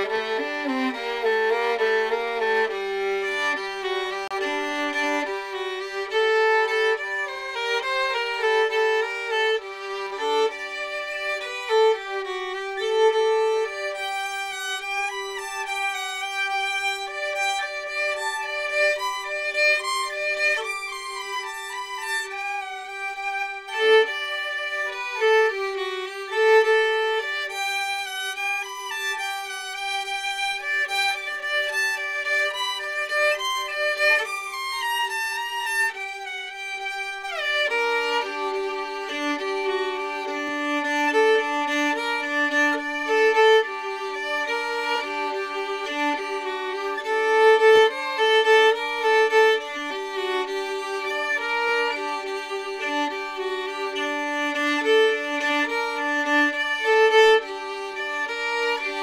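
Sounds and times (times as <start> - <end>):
solo violin melody: 0.0 - 59.0.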